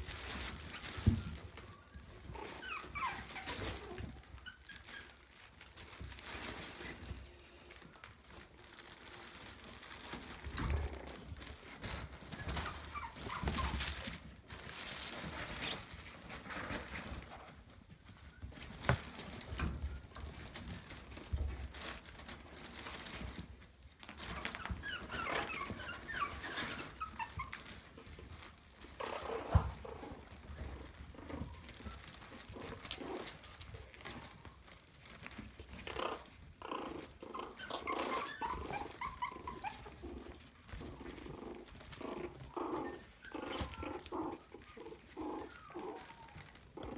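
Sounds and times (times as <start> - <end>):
puppies squeaking and whimpering: 0.0 - 7.4, 8.2 - 21.3, 22.0 - 46.9.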